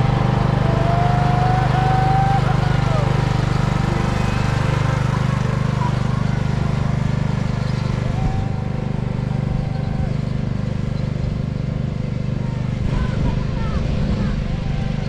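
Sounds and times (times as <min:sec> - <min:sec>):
ride-on lawn mower engine: 0:00.0 - 0:15.0.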